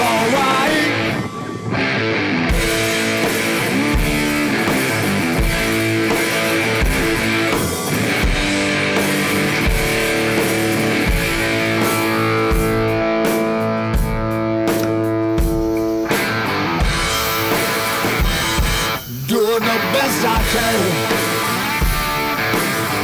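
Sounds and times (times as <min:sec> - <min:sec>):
strummed electric guitar: 0:00.0 - 0:23.0
drum beat: 0:02.5 - 0:23.0.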